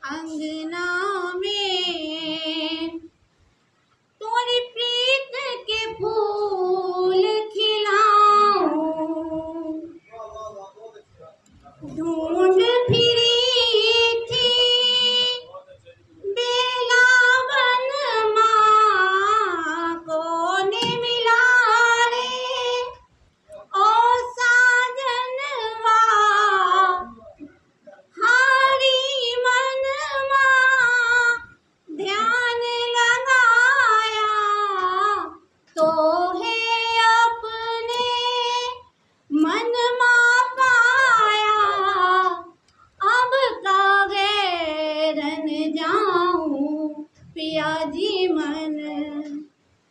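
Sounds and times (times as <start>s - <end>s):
woman singing into a microphone: 0.0s - 3.1s, 4.2s - 10.0s, 11.8s - 15.5s, 16.2s - 23.1s, 23.7s - 27.4s, 28.1s - 49.5s.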